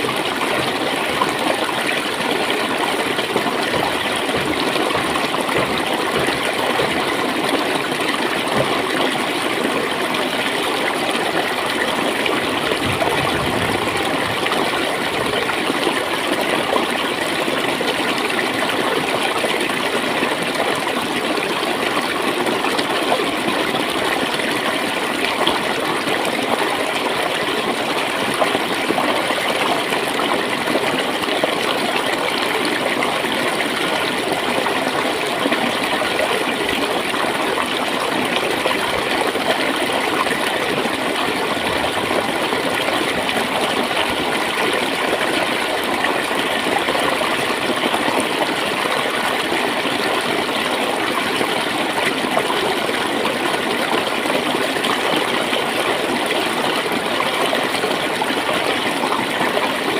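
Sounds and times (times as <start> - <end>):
stream water flowing and gurgling: 0.0 - 59.9.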